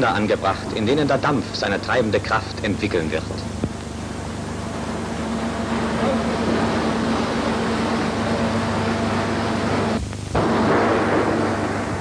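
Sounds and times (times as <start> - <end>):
machine shop hum: 0.0 - 12.0.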